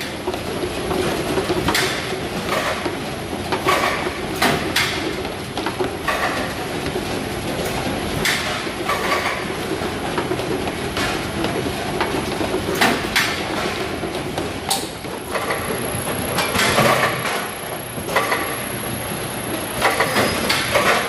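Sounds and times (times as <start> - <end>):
conveyor mechanical rattle: 0.0 - 21.0.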